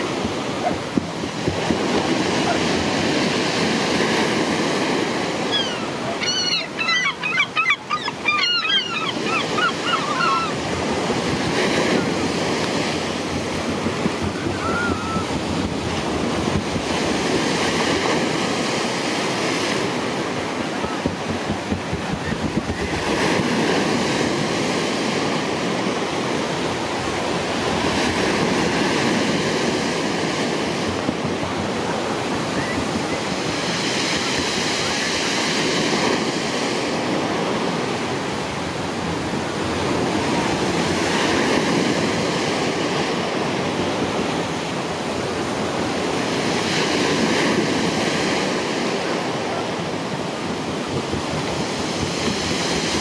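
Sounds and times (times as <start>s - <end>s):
rushing water: 0.0s - 53.0s
wind on microphone: 0.0s - 53.0s.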